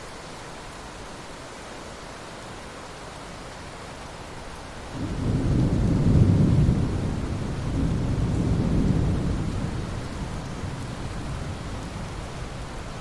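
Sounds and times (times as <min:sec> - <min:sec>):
rain falling on water: 0:00.0 - 0:13.0.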